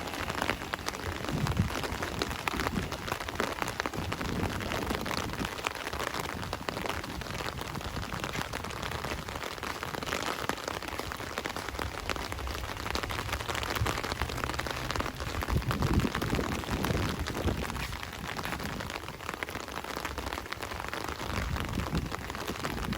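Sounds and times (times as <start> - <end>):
rain falling: 0.0 - 22.9
raindrops striking close by: 0.0 - 22.9.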